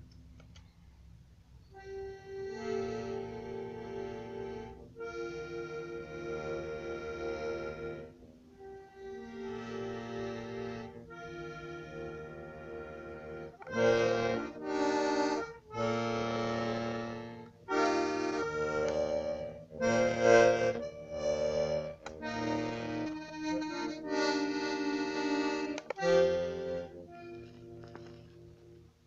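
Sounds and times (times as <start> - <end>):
accordion playing chords: 1.6 - 29.0.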